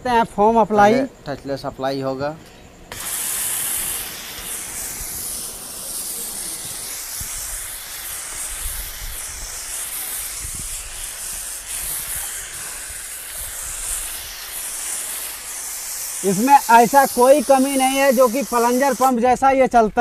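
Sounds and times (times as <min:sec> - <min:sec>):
pressure washer spraying foam: 0:02.9 - 0:19.4.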